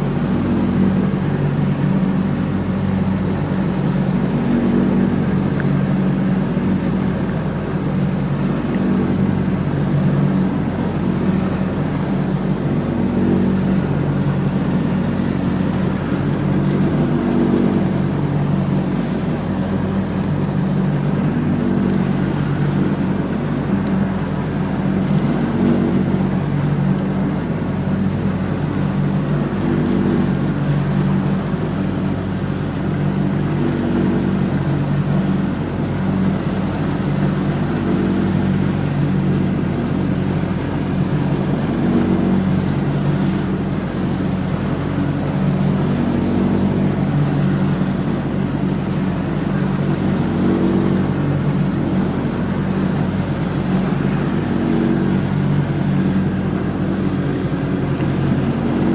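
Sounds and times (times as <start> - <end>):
lawn tractor engine mowing: 0.0 - 58.9.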